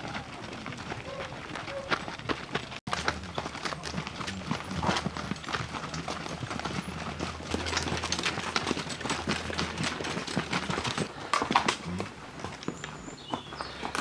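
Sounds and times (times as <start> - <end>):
hooves clopping on stony trail: 0.0 - 14.0.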